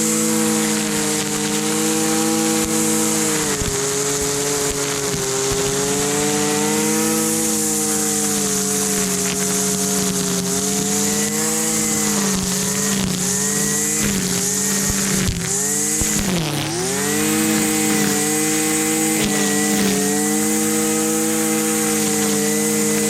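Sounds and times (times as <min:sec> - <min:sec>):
string trimmer engine running: 0:00.0 - 0:23.0.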